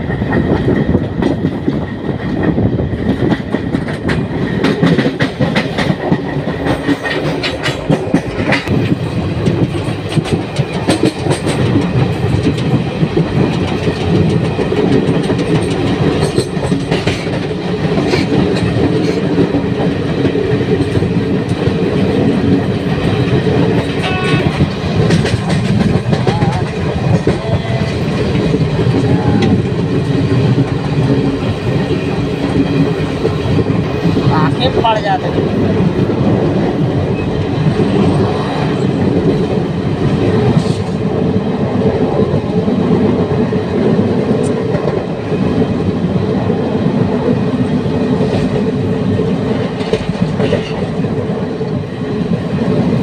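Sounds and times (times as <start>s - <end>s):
clickety-clack over rail joints: 0.0s - 53.0s
train wheels rumbling on rails: 0.0s - 53.0s.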